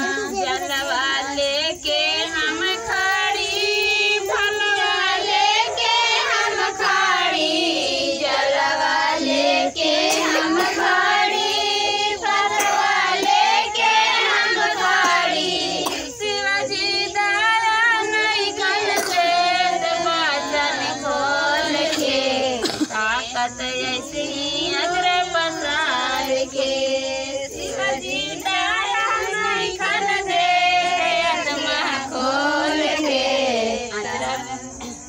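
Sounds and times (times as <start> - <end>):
women singing together: 0.0 - 35.0.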